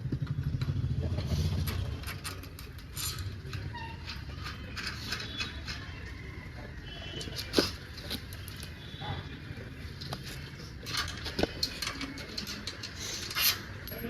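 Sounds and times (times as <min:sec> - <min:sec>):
bicycle parts and tools clicking: 0:00.1 - 0:06.2, 0:07.2 - 0:08.8, 0:09.9 - 0:14.0.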